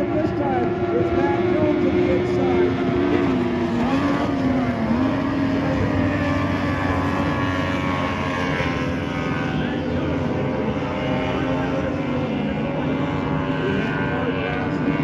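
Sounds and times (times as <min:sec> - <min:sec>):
racing boat engines: 0:00.0 - 0:15.0.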